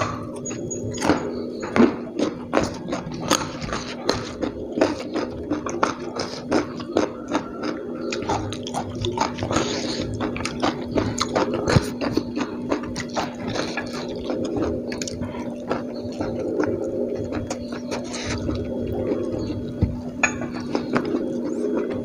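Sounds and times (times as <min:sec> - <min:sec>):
man chewing food: 0:00.0 - 0:22.0
steady low hum: 0:00.0 - 0:22.0.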